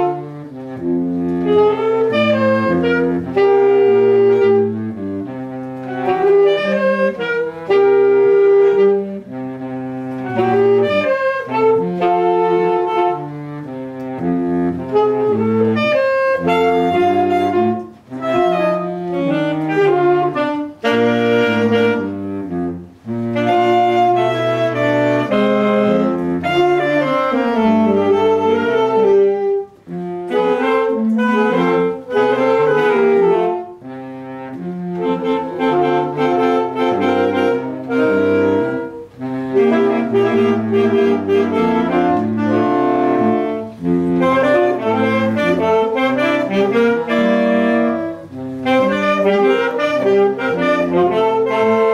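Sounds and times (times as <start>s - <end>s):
saxophone quartet playing jazz: 0.0s - 51.9s.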